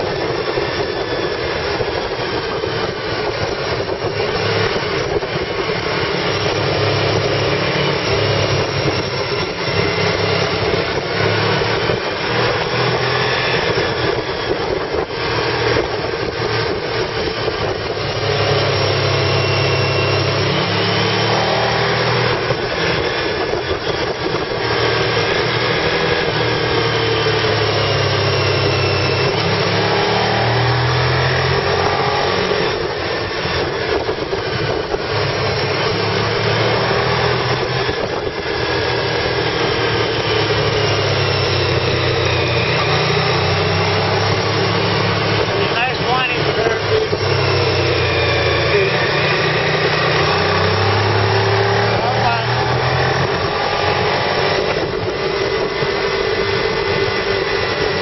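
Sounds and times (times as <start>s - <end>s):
car engine from inside cabin: 0.0s - 58.0s
road noise: 0.0s - 58.0s.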